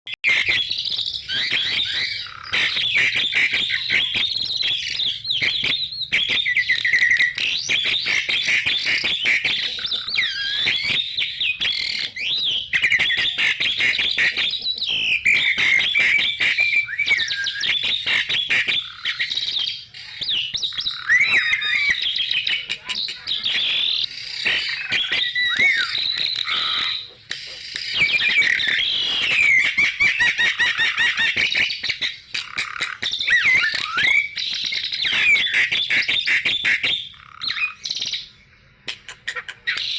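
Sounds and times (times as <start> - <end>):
birds chattering and whistling: 0.1 - 39.9.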